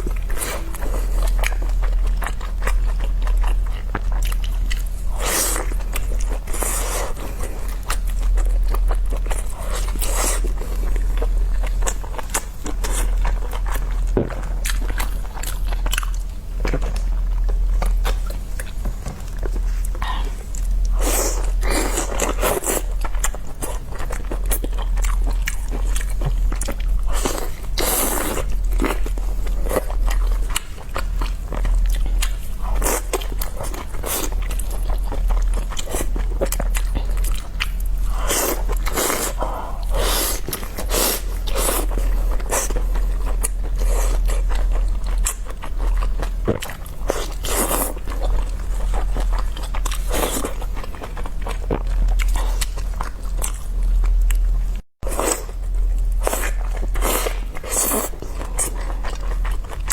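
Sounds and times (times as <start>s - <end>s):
chewing and biting dumplings: 0.0s - 59.9s
steady low hum: 0.0s - 59.9s.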